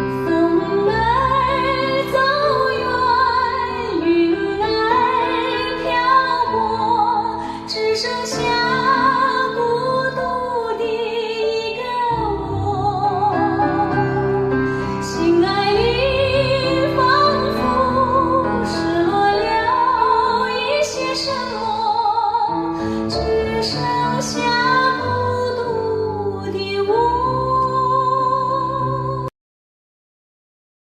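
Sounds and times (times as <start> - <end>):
piano: 0.0 - 29.4
woman singing with vibrato: 0.1 - 29.3.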